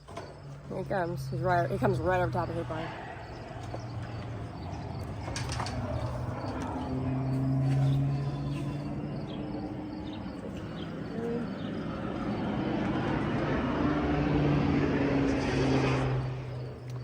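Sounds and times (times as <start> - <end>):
low-flying plane engine drone: 0.0 - 17.0.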